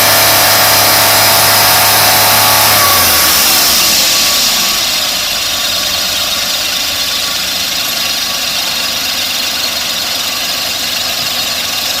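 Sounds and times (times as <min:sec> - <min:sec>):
air conditioner compressor running: 0:00.0 - 0:12.0.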